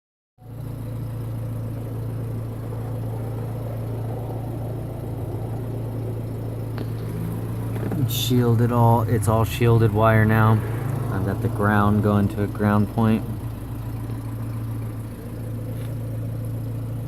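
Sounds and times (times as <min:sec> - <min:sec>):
car engine idling: 0:00.4 - 0:17.0.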